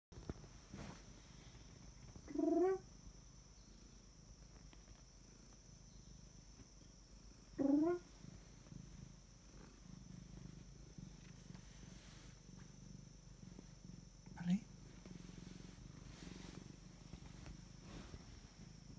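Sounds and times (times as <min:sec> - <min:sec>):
cat purring: 0:00.2 - 0:18.9.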